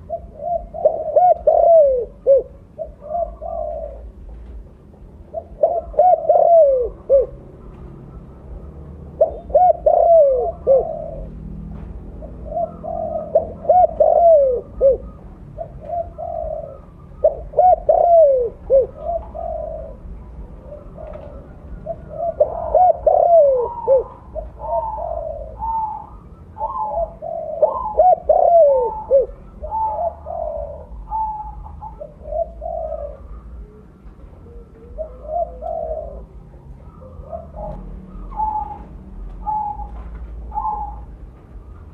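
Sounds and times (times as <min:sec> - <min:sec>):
dove cooing: 0:00.0 - 0:41.9
higher dove coos: 0:00.0 - 0:41.9.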